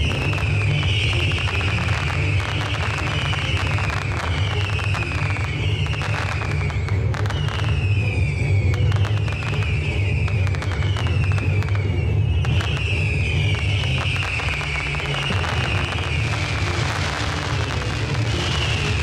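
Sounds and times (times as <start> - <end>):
firework falling whistle: 0.0 - 19.0
fireworks crackling pops: 0.0 - 19.0.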